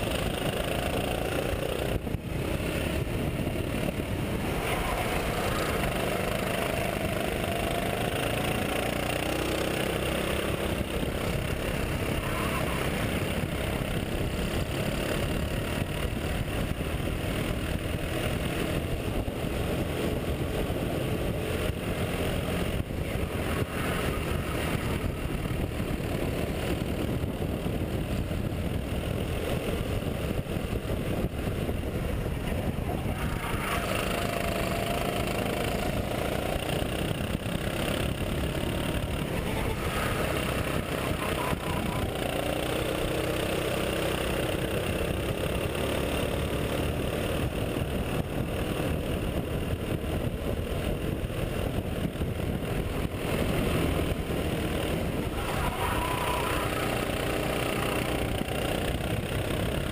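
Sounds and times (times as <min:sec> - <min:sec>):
kart engine running hard: 0:00.0 - 0:59.9
steady rushing noise: 0:00.0 - 0:59.9.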